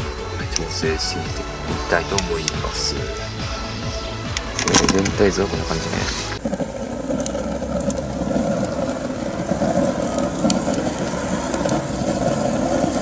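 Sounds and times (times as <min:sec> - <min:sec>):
fire crackles: 0:00.0 - 0:13.0
stove fire rumbling: 0:00.0 - 0:13.0.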